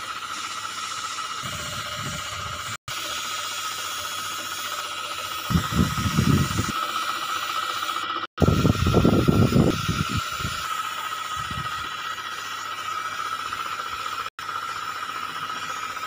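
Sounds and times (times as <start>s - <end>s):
spray gun hissing: 0.0s - 14.3s.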